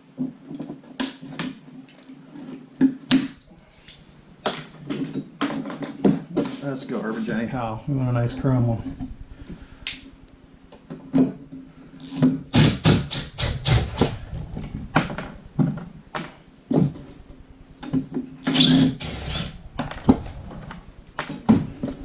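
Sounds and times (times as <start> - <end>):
faint low hum: 2.1 - 22.0.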